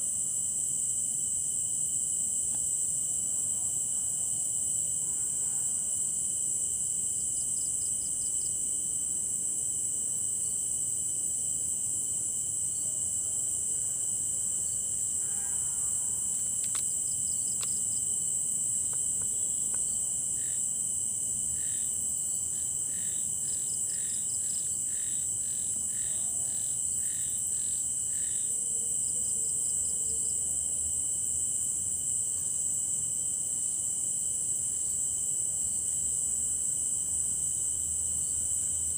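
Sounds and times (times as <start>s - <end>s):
low steady insect tone: 0.0s - 38.9s
crickets trilling: 0.1s - 38.9s.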